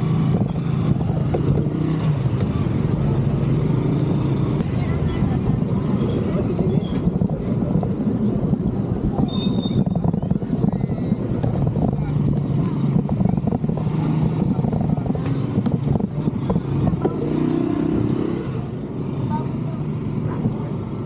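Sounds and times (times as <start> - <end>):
motor vehicles humming: 0.0 - 21.0
vehicle droning: 0.0 - 21.0
wind buffeting microphone: 0.0 - 21.0.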